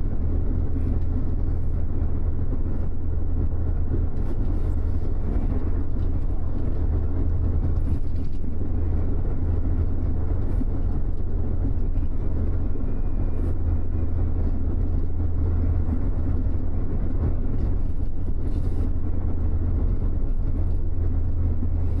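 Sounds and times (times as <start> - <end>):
bus engine and road drone: 0.0 - 22.0.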